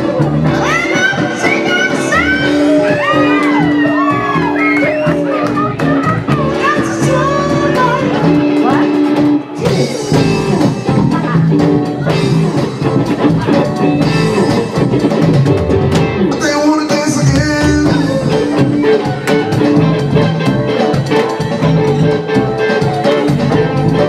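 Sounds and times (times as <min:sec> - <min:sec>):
person singing: 0:00.0 - 0:14.9, 0:16.2 - 0:24.0
funk band playing: 0:00.0 - 0:24.0.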